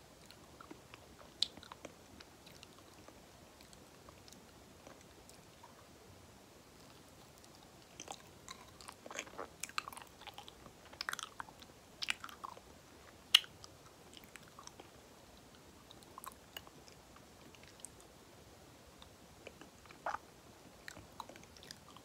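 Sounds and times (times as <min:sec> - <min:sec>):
chewing soft banana: 0:00.0 - 0:22.0.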